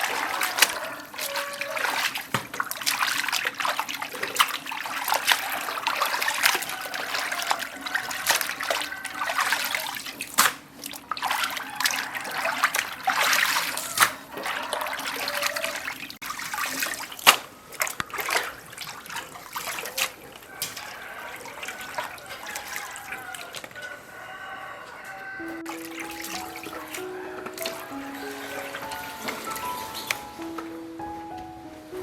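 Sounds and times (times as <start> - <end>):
water trickling and splashing: 0.0 - 31.1.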